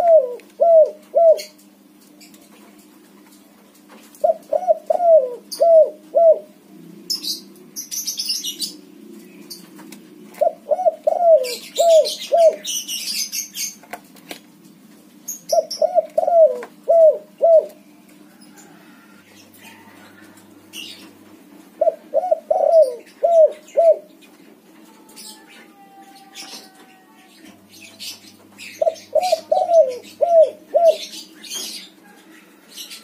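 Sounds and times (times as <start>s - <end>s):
dove cooing: 0.0s - 1.6s, 4.2s - 12.8s, 15.3s - 24.2s, 24.8s - 33.0s
steady low hum: 0.0s - 33.0s.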